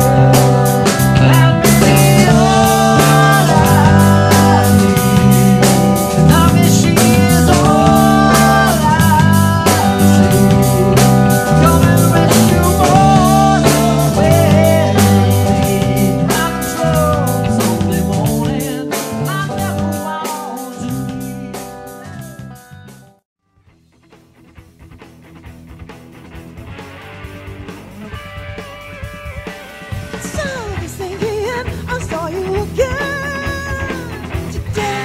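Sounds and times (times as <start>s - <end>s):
drum kit beat: 0.0s - 23.0s, 24.1s - 35.0s
bass guitar: 0.0s - 35.0s
electric guitar lead: 0.0s - 35.0s.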